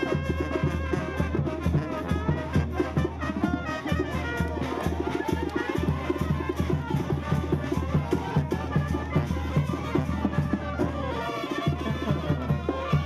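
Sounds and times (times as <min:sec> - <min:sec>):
brass band music: 0:00.0 - 0:13.0
drums keeping a steady beat: 0:00.0 - 0:13.0.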